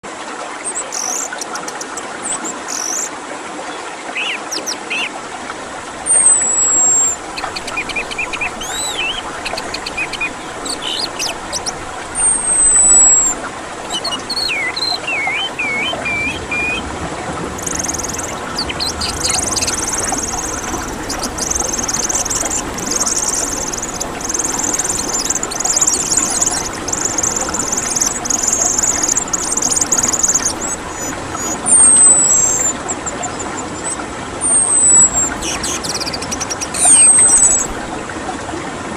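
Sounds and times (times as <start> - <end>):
steady background noise: 0.1 - 38.9
bird whistles and chirps: 0.7 - 3.1, 4.2 - 5.1, 6.0 - 16.8, 17.6 - 37.8
high-pitched bird chatter: 0.7 - 3.1, 4.2 - 5.2, 6.0 - 16.8, 17.6 - 37.8.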